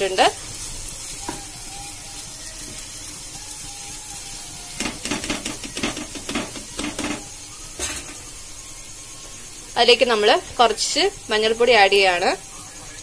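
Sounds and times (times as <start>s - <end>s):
masala sizzling in frying pan: 0.0s - 13.0s.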